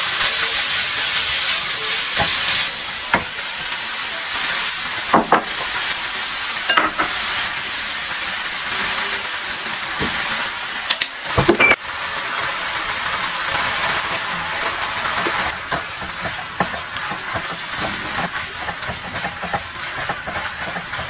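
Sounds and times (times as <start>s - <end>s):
noodles sizzling in pan: 0.0s - 21.0s.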